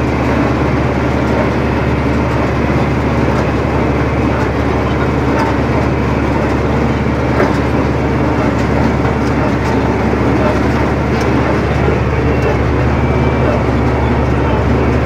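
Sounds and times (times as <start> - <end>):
hay baler machinery working: 0.0 - 15.0
tractor engine drone: 0.0 - 15.0.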